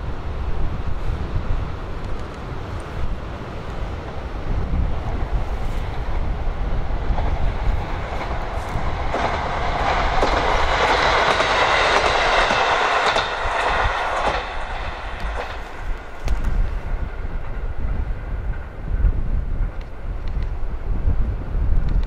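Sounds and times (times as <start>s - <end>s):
diesel railcar passing: 0.0s - 22.0s
wind rumble on microphone: 0.0s - 22.0s
wheels clicking over rail joints: 1.8s - 20.7s.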